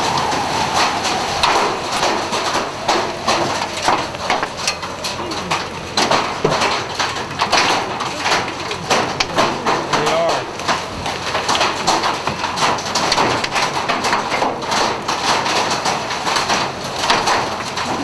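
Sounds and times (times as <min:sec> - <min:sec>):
hailstones striking vehicle: 0:00.0 - 0:18.0
wind and rain hiss: 0:00.0 - 0:18.0.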